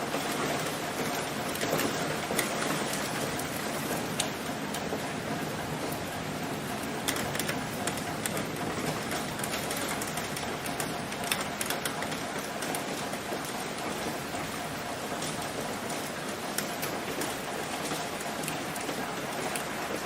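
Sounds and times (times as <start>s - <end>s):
rain falling on leaves: 0.0s - 20.0s.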